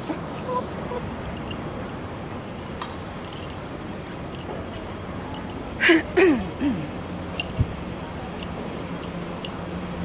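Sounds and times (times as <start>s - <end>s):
distant traffic: 0.0s - 10.0s.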